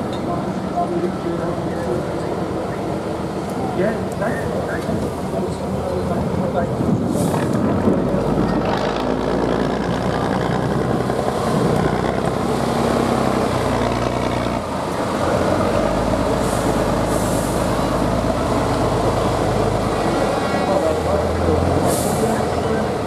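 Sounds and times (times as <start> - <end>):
truck diesel engine running hard: 0.0 - 23.0.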